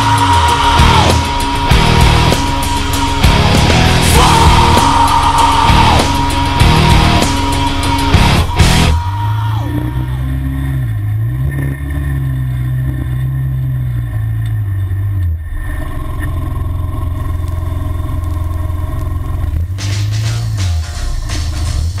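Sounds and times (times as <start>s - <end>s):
utility vehicle engine revving: 0.0s - 22.0s.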